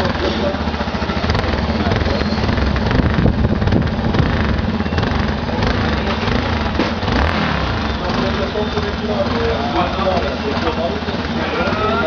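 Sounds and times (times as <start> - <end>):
motorcycle engine exhaust rumble: 0.0 - 12.0.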